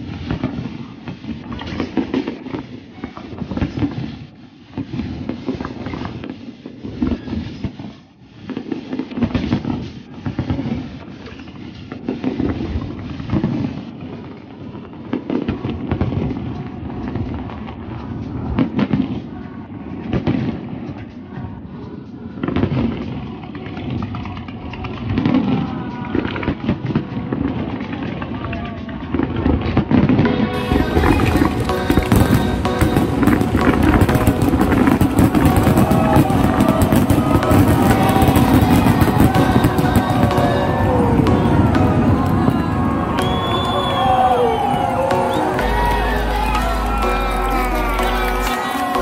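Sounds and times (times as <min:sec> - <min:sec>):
fireworks booming and crackling: 0:00.0 - 0:21.1, 0:22.4 - 0:49.0.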